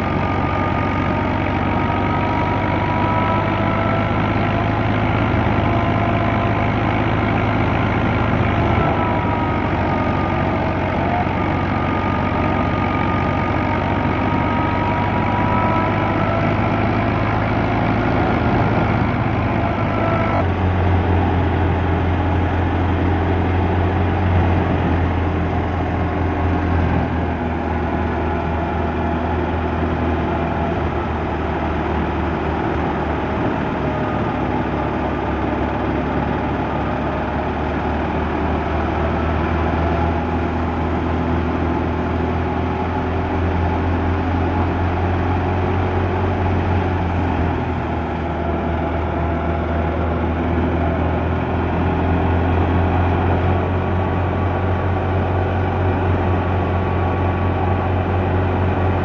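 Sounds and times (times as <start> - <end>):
tractor engine and thresher hum: 0.0 - 59.0.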